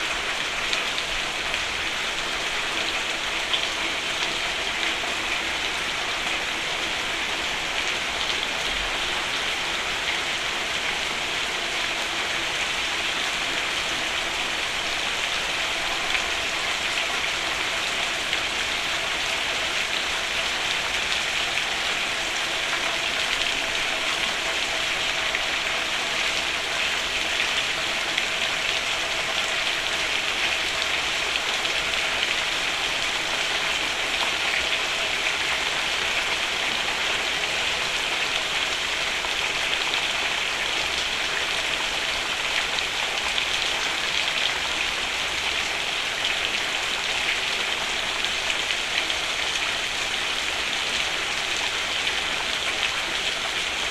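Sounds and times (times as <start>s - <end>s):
rain falling on a roof: 0.0s - 53.9s.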